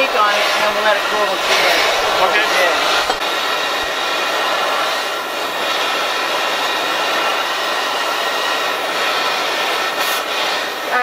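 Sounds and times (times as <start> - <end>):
gas torch hissing: 0.0 - 11.0.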